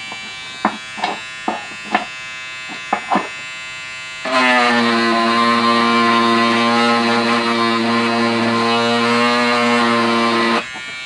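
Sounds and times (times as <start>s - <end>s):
electric sander pen buzzing: 0.0s - 11.0s.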